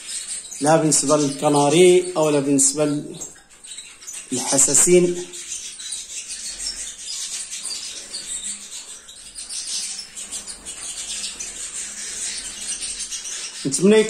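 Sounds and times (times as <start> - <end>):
finches chirping and twittering: 0.0 - 14.0.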